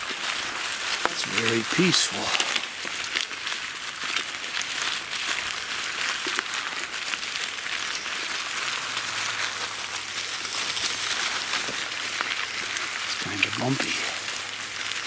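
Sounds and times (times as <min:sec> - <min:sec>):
bicycle tyres on dry leaves: 0:00.0 - 0:15.0.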